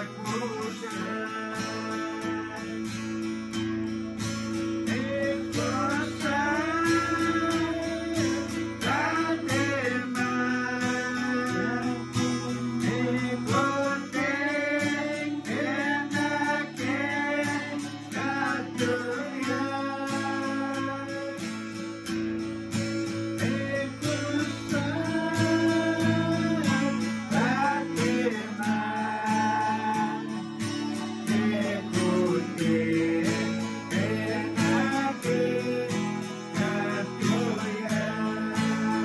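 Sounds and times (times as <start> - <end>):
acoustic guitars playing: 0.0 - 39.0.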